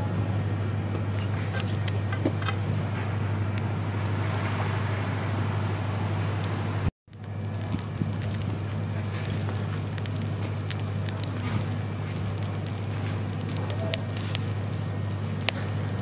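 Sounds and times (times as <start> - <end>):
charcoal embers crackling and popping: 0.0 - 16.0
steady low hum: 0.0 - 16.0.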